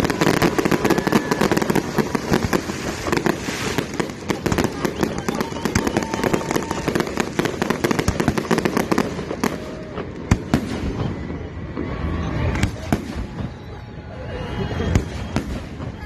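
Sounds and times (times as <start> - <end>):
fireworks crackling pops: 0.0 - 13.8.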